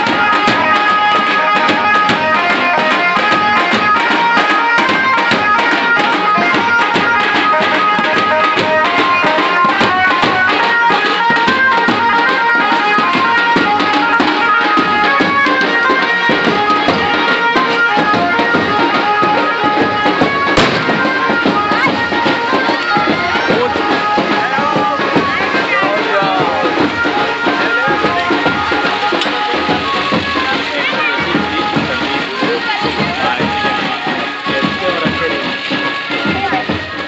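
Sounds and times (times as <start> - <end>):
melody of held notes: 0.0 - 36.9
fast hand drum beats: 0.0 - 37.0.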